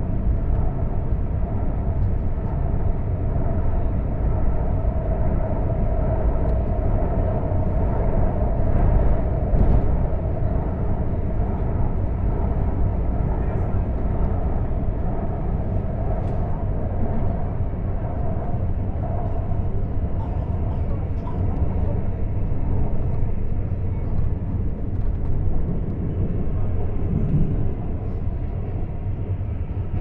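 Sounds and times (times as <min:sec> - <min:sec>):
metro car rumble: 0:00.0 - 0:30.0.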